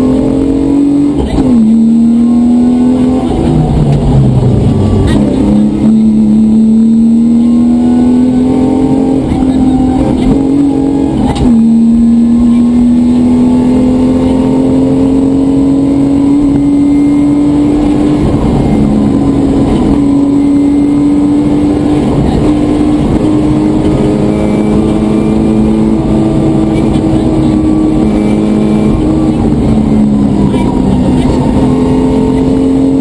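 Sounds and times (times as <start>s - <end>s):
rally car engine accelerating: 0.0s - 33.0s.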